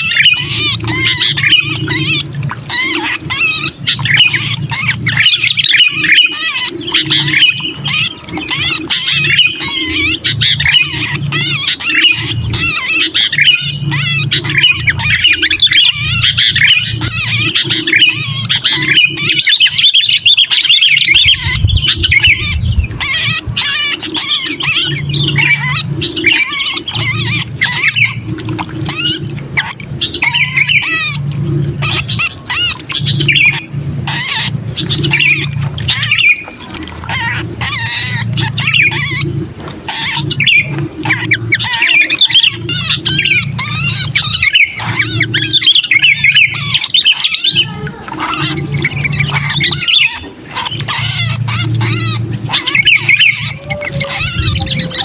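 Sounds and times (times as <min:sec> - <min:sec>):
bulbuls harsh chattering calls: 0:00.0 - 0:55.0
pulsing low rumble: 0:00.0 - 0:55.0.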